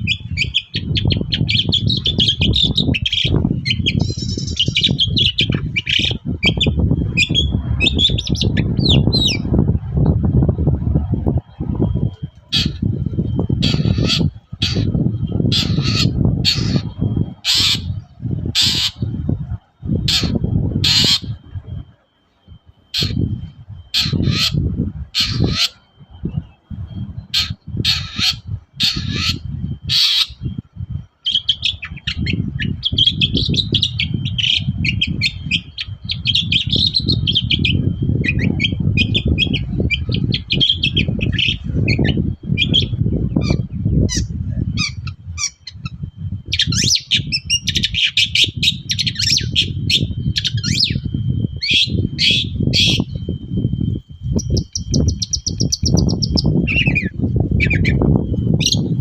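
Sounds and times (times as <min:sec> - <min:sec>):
bird singing chattering notes: 0:00.0 - 0:59.0
steady low rumble: 0:00.0 - 0:59.0.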